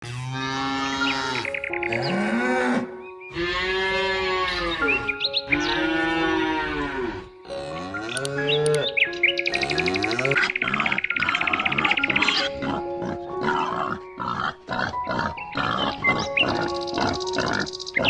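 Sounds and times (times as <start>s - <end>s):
cattle mooing: 0.0s - 18.0s.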